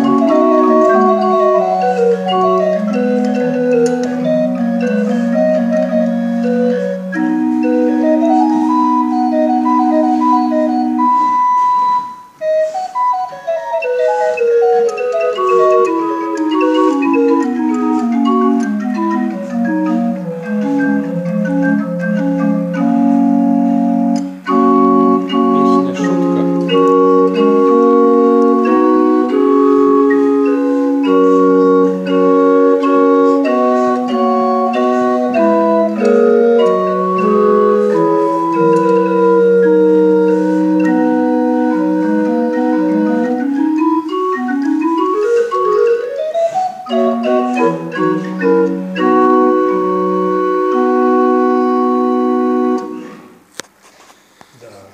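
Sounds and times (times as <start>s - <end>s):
pipe organ playing a tune: 0.0s - 53.6s.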